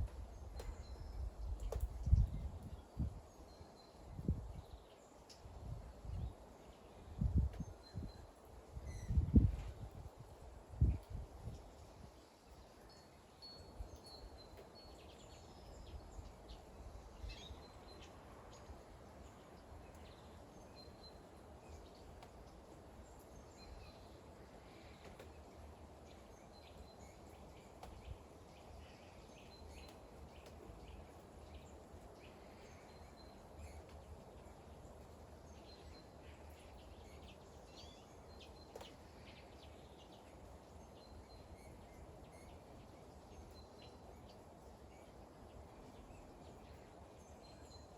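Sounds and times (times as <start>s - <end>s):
faint steady rain: 0.0s - 47.9s.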